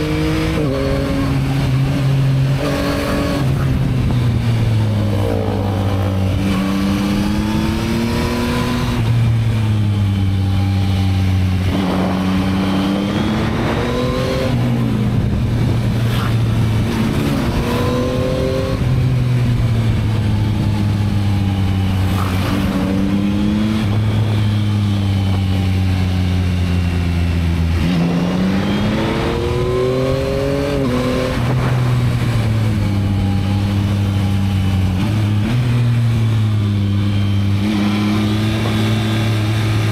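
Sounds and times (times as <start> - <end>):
motorcycle engine revving: 0.0 - 39.9
rush of riding noise: 0.0 - 39.9.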